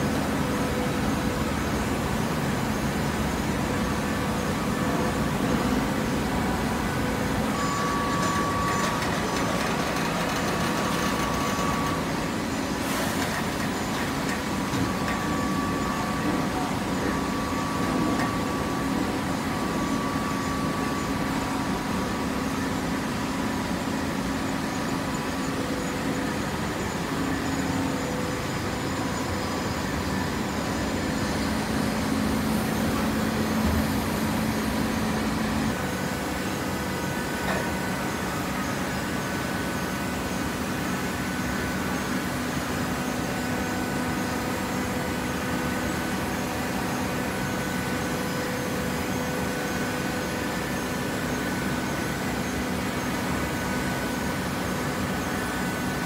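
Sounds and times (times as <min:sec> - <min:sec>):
hydraulic baler humming: 0:00.0 - 0:56.0.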